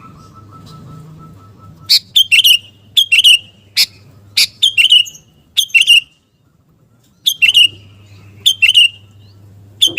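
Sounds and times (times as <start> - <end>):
bird call: 0.0 - 6.2, 6.9 - 9.9.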